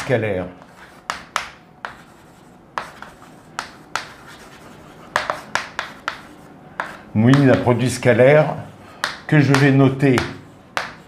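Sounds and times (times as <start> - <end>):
chalk tapping and scratching: 0.0 - 7.8, 9.0 - 11.0.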